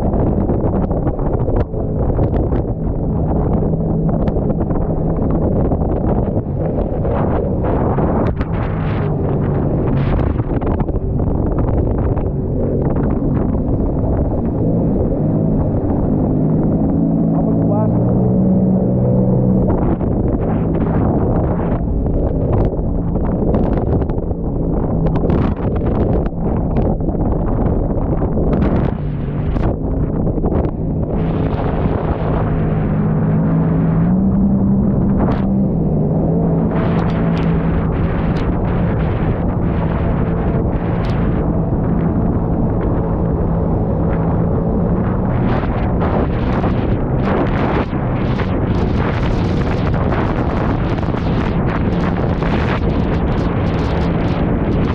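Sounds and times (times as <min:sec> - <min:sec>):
jet ski engine running: 0:00.0 - 0:54.9
rushing water: 0:00.0 - 0:54.9
wind buffeting microphone: 0:00.0 - 0:54.9.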